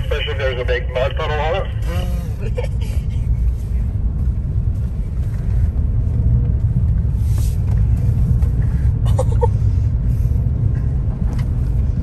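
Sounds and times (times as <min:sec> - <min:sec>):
vehicle cabin rumble on dirt trail: 0:00.0 - 0:12.0.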